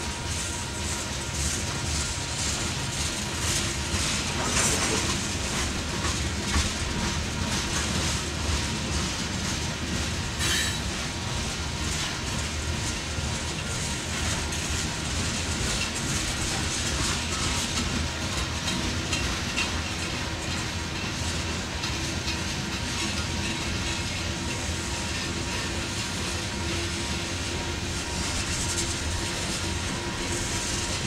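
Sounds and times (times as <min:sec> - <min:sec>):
freight train rolling past: 0:00.0 - 0:31.0
wheels clacking over rails: 0:00.9 - 0:31.0.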